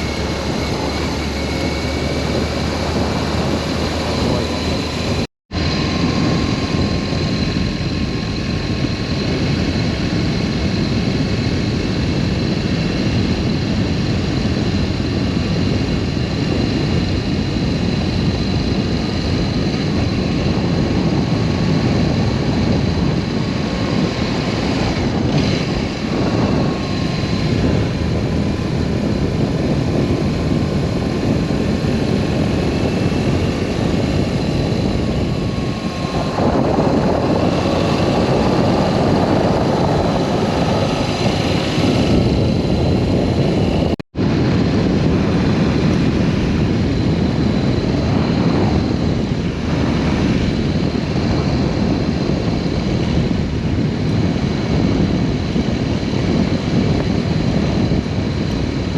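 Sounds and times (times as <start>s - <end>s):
motorcycle engine running: 0.0s - 58.9s
wind over microphone: 0.0s - 58.9s.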